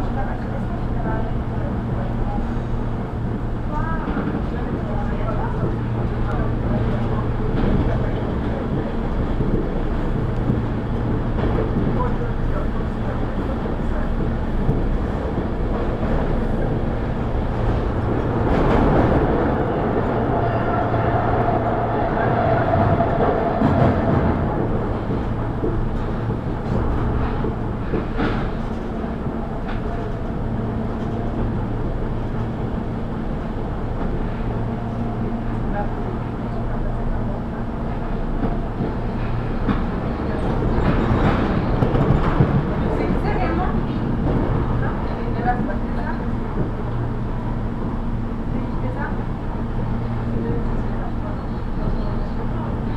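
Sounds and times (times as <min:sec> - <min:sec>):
electric train rumbling: 0:00.0 - 0:52.9
steady train whine: 0:00.0 - 0:52.9.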